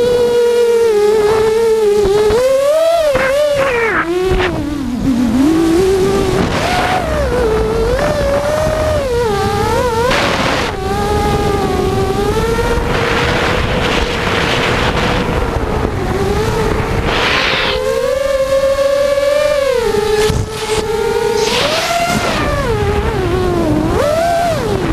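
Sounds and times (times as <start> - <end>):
drone motors whining: 0.0 - 24.9
rushing wind noise: 0.0 - 24.9.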